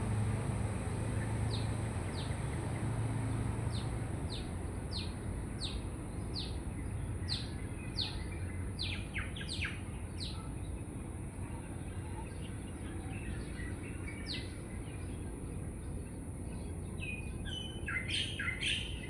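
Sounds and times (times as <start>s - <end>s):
birds chirping: 1.2s - 10.9s, 11.6s - 19.0s.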